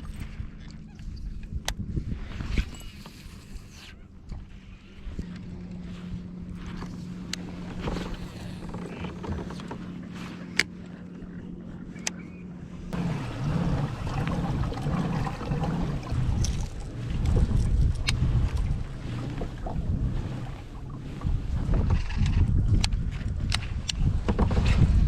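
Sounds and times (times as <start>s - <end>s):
low motor-like hum: 0.0s - 25.0s
rush of wind or water: 0.0s - 25.0s.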